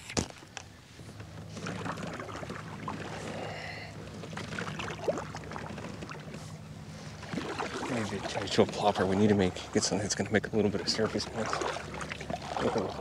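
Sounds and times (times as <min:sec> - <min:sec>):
kayak paddle splashing: 0:01.0 - 0:13.0.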